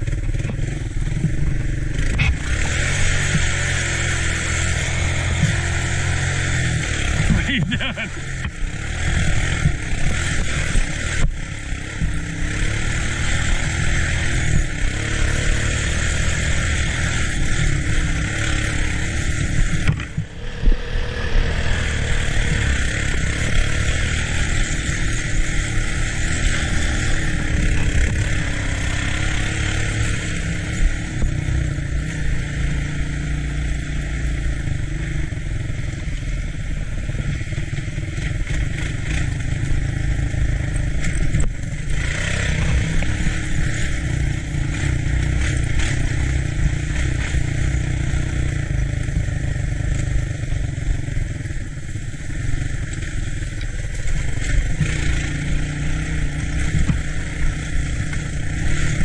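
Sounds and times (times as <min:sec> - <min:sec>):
three-wheeler engine running: 0:00.0 - 0:59.0.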